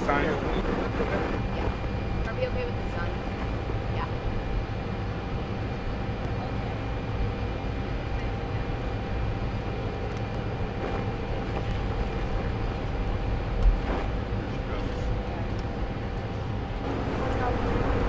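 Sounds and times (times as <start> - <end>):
jet aircraft low rumble: 0.0 - 18.0.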